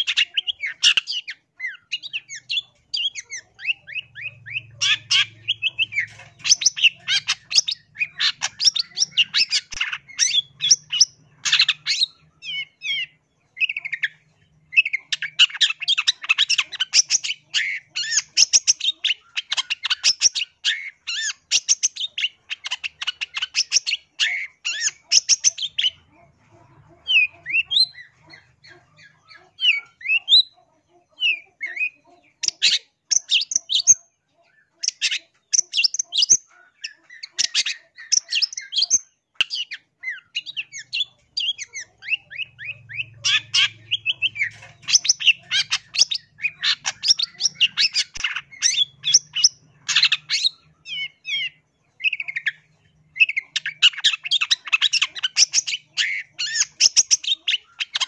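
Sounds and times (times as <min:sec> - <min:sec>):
shrike chattering and whistling: 0:00.0 - 0:34.0, 0:34.7 - 0:58.0.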